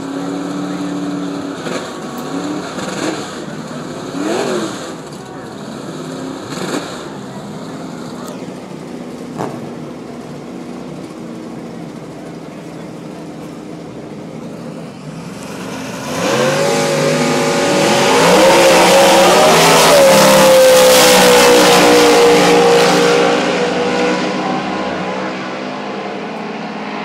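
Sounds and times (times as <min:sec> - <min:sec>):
drag racing car engines revving: 0:00.0 - 0:27.0.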